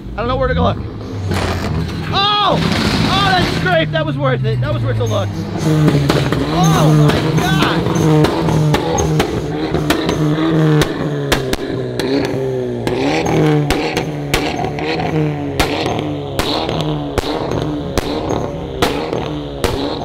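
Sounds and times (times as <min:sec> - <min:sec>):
car engine revving: 0:00.0 - 0:20.0
exhaust pops and crackles: 0:01.2 - 0:20.0.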